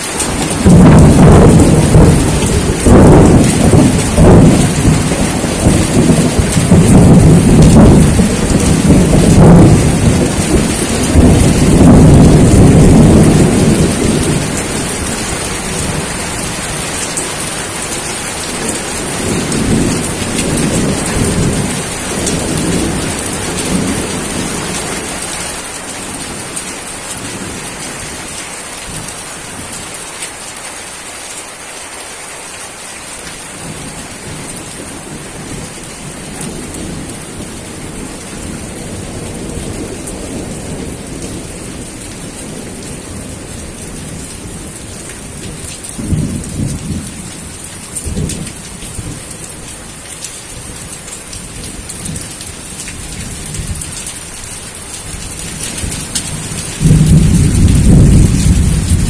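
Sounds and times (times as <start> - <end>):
steady rain hiss: 0.0 - 59.0
rolling thunder rumble: 0.2 - 27.6, 33.6 - 49.6, 55.0 - 59.0.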